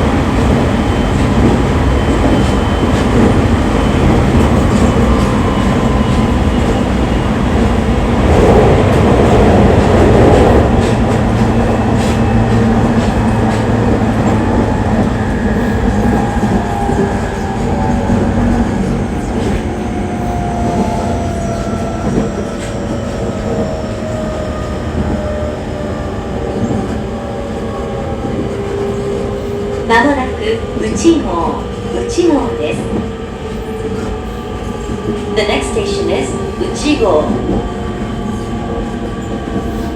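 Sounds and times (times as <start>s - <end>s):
train wheel and running noise: 0.0s - 39.9s.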